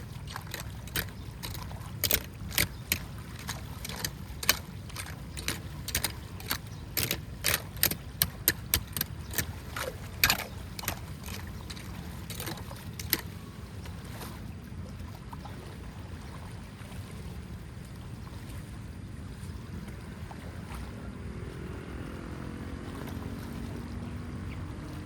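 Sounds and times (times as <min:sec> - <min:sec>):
steady low water rush: 0:00.0 - 0:25.0
water splashing and sloshing: 0:00.0 - 0:25.0.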